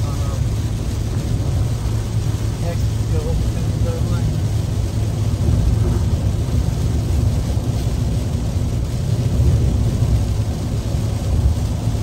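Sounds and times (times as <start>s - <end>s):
car driving heard from cabin: 0.0s - 12.0s
rain on windshield: 0.0s - 12.0s
tyre hiss on wet road: 0.0s - 12.0s.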